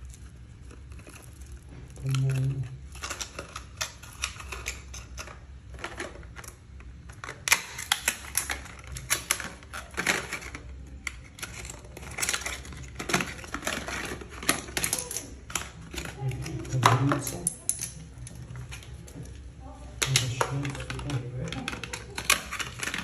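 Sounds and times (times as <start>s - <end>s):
cardboard and plastic handled: 0.0s - 23.0s.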